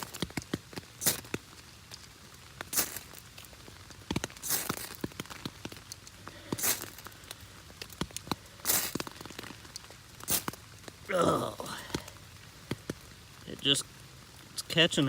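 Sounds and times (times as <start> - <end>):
rain pattering on umbrella: 0.0 - 15.0.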